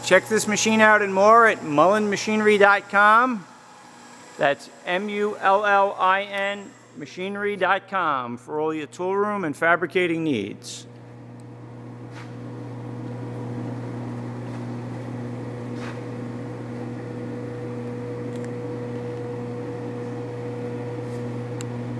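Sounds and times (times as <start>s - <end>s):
machine hum: 0.0s - 21.9s.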